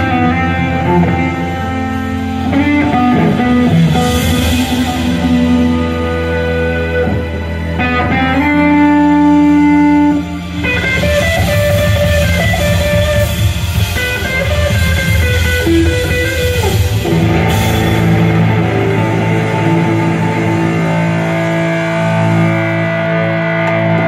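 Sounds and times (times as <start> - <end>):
drums and bass: 0.0 - 24.0
electric guitar solo: 0.0 - 24.0.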